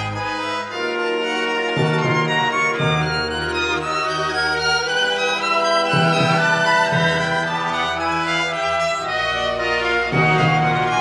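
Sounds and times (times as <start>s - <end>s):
orchestral music with held notes: 0.0s - 11.0s.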